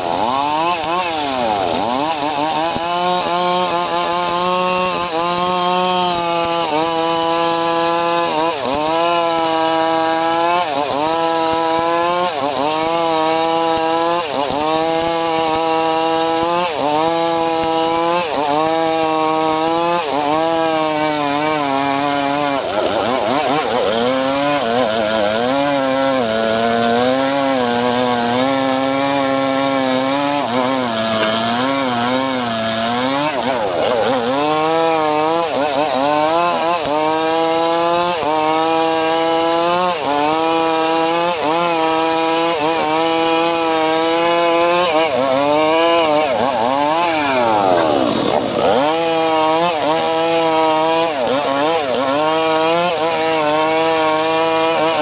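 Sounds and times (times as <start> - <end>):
engine-driven saw cutting wood: 0.0 - 55.0.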